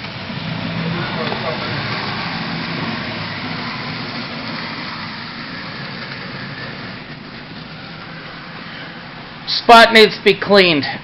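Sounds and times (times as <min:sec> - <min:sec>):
model train running on track: 0:00.0 - 0:10.4.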